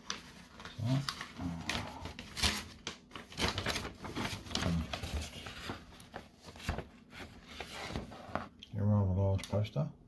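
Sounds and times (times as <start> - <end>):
paper rustling and crinkling: 0.0 - 8.6.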